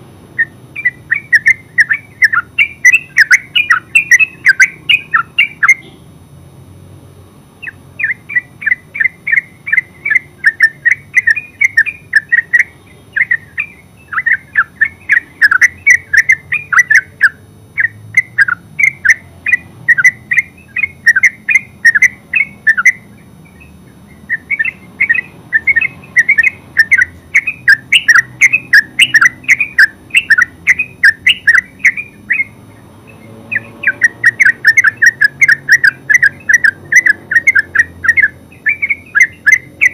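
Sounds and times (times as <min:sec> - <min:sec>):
bird chattering song: 0:00.3 - 0:06.1, 0:07.6 - 0:39.9.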